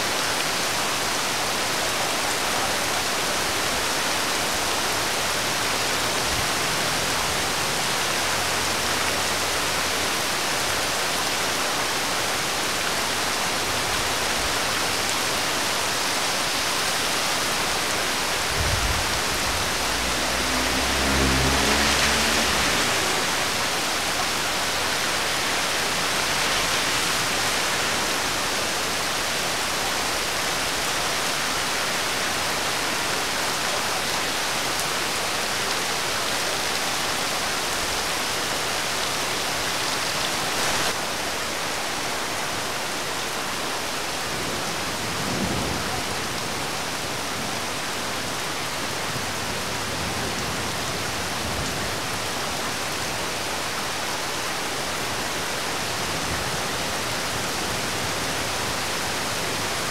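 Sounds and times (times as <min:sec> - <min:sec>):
rain falling on road and roofs: 0:00.0 - 0:59.9
vehicle passing on wet road: 0:00.0 - 0:59.9.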